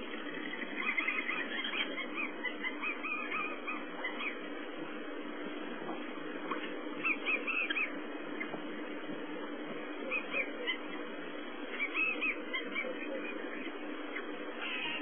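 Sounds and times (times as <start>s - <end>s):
wild dogs chirping: 0.0s - 5.3s, 6.4s - 8.9s, 9.5s - 15.0s
steady low hum: 0.0s - 15.0s.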